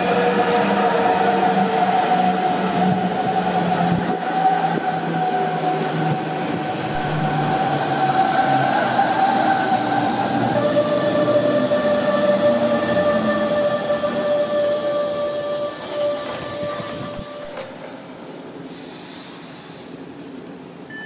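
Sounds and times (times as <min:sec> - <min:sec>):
train high whine: 0:00.0 - 0:21.0.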